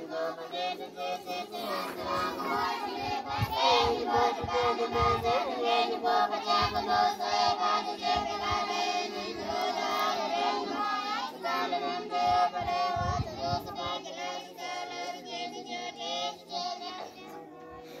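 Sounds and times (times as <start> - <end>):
children singing together: 0.0 - 17.9.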